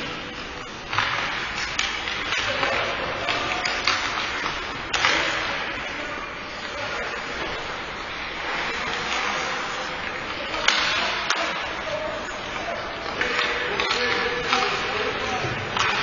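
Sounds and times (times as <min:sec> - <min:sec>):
hockey sticks and puck clacking: 0:00.0 - 0:16.0.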